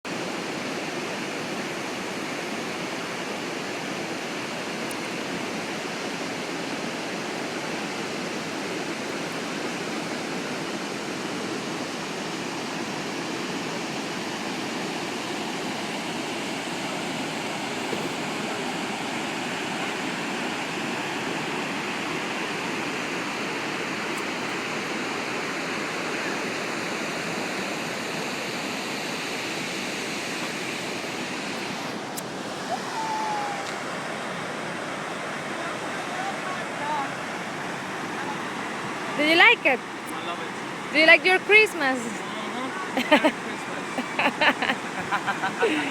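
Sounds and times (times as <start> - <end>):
waterfall roaring: 0.1 - 45.9.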